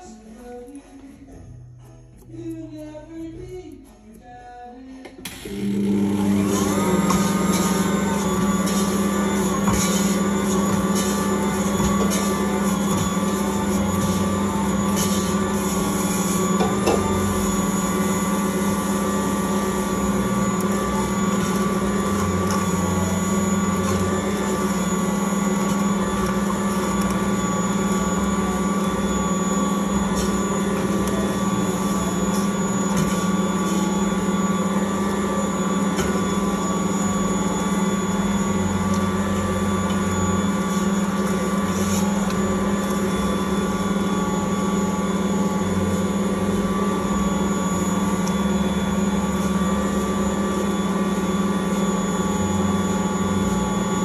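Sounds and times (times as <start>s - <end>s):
stand mixer humming: 5.3s - 54.0s
dough kneading in bowl: 5.9s - 51.9s.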